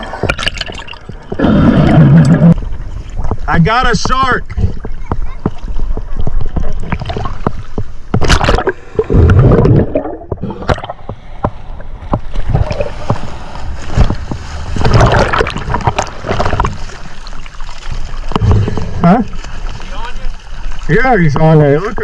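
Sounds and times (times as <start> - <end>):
sea water sloshing and splashing: 0.0 - 3.5, 4.4 - 22.0.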